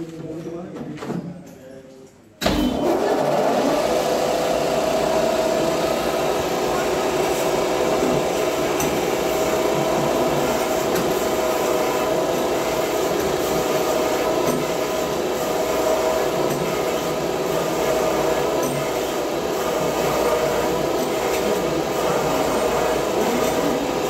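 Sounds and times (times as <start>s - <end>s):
machine hum: 2.5s - 24.0s.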